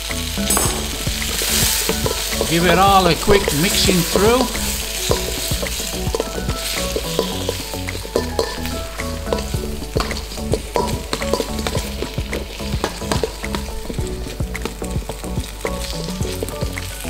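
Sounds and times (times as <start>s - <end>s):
food sizzling in a bowl: 0.0s - 17.0s.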